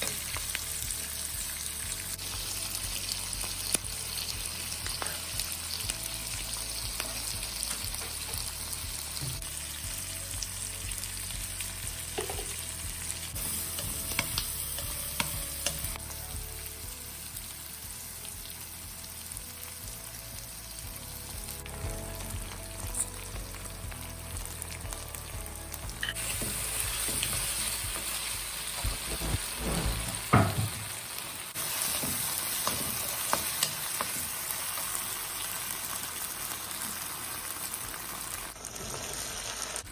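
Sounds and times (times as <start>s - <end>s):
oil sizzling in a pan: 0.0s - 39.9s.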